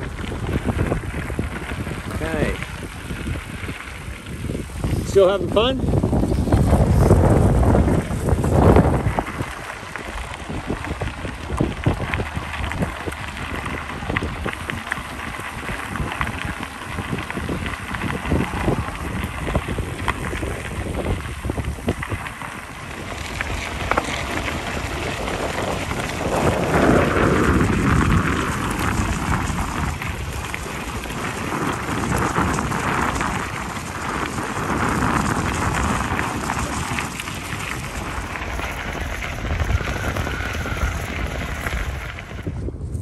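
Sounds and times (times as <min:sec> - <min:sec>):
bicycle tyres crunching on gravel: 0:00.0 - 0:43.0
wind on microphone: 0:00.0 - 0:43.0.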